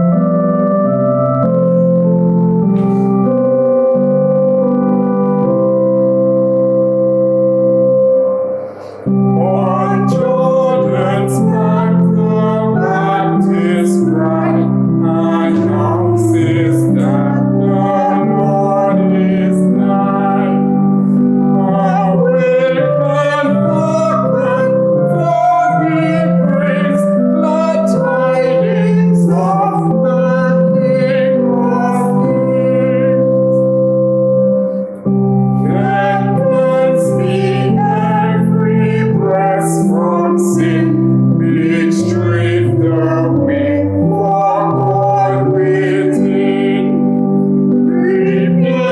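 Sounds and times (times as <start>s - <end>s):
sustained keyboard chords: 0.0s - 48.9s.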